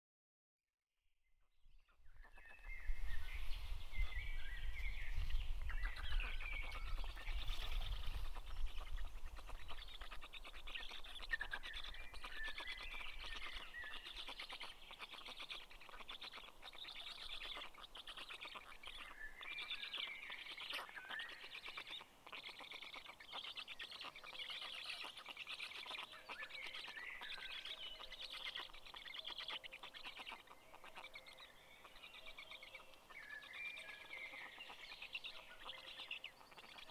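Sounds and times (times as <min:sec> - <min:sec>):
small birds chirping: 0:01.2 - 0:36.9.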